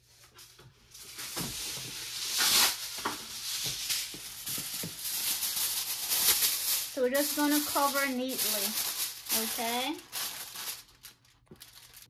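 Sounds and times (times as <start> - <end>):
aluminium foil crinkling: 0.1 - 12.0.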